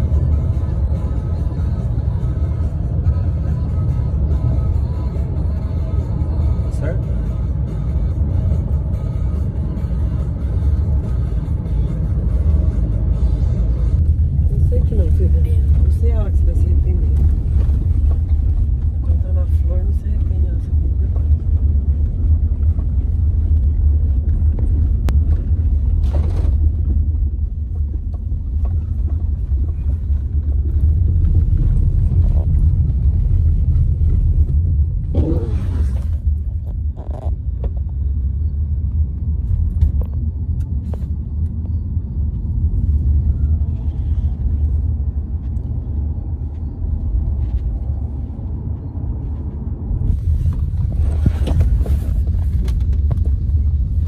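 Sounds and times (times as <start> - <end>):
car cabin road and engine rumble: 0.0 - 54.0.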